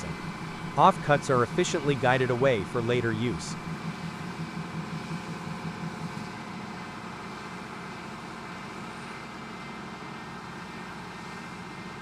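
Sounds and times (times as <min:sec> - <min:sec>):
factory machinery humming: 0:00.0 - 0:12.0.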